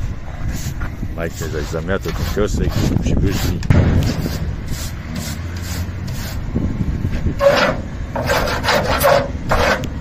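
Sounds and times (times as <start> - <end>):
steady low rumble: 0.0 - 8.3
push broom scraping sawdust: 0.5 - 6.5, 7.4 - 10.0.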